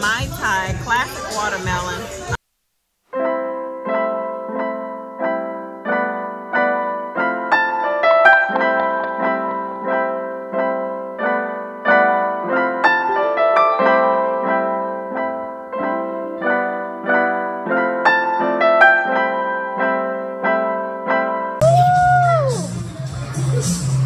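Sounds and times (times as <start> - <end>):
piano music: 3.1 - 24.0.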